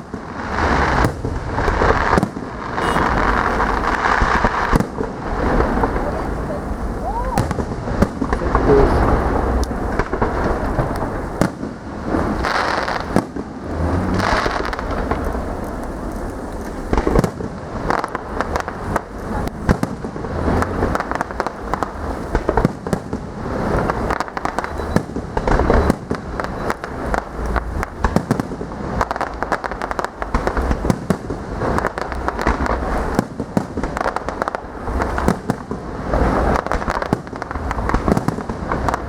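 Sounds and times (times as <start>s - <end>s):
firework shells booming: 0.0s - 39.0s
fireworks bangs and crackling: 0.0s - 39.0s.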